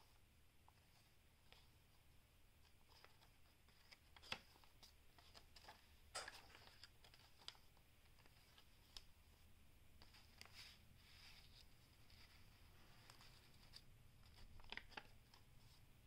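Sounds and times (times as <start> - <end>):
paper pages turning: 2.6 - 16.0.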